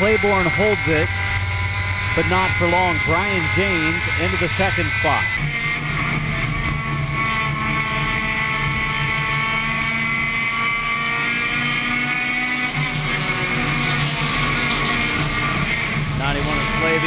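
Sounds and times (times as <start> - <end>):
race car engine at steady pitch: 0.0 - 17.0.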